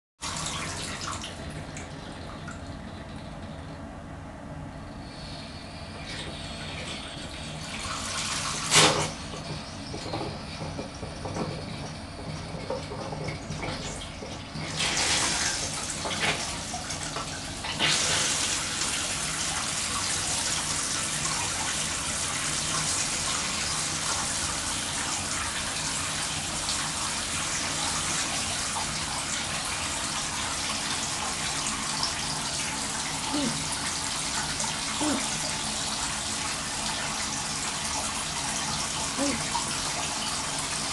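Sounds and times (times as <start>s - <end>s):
water running into bathtub: 0.2s - 3.6s, 5.0s - 40.9s.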